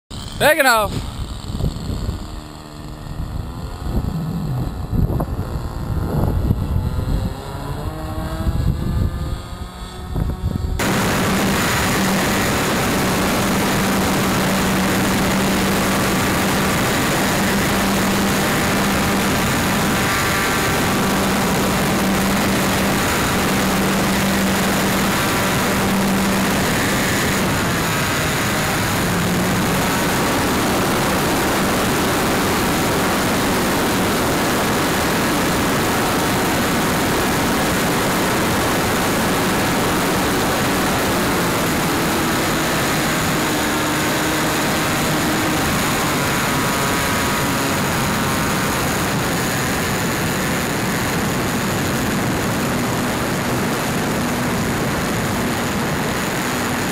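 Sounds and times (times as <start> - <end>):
model airplane engine running: 0.1 - 56.9
wind noise: 0.1 - 56.9.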